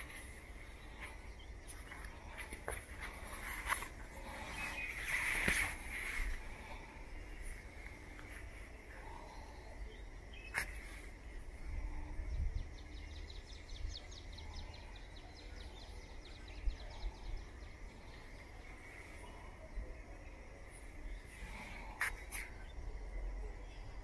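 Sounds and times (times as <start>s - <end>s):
faint high-pitched hum: 0.0s - 24.0s.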